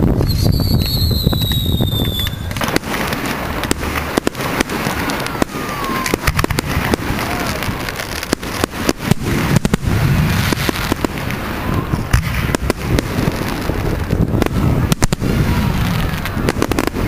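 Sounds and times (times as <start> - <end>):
firework bangs and crackles: 0.0 - 17.0
firework whistles: 0.0 - 17.0.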